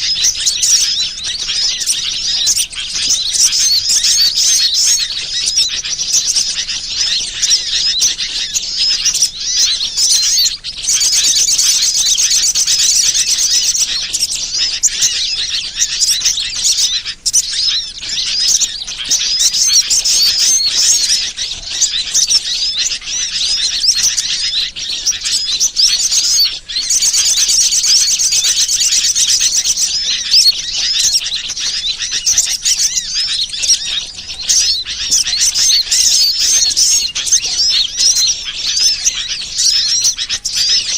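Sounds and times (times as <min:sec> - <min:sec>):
many small birds chirping: 0:00.0 - 0:40.9.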